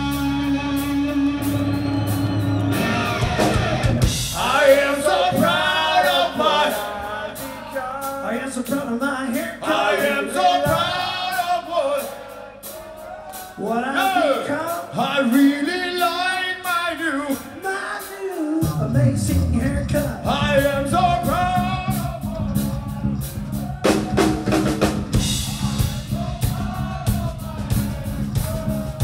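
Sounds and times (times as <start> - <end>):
rock band playing: 0.0 - 29.0.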